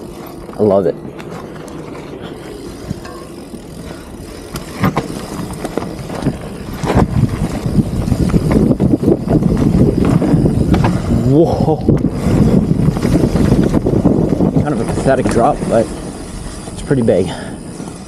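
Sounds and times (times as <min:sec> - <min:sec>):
bike knocking and rattling: 0:00.0 - 0:18.0
bike tyres rumbling over dirt: 0:00.0 - 0:18.0.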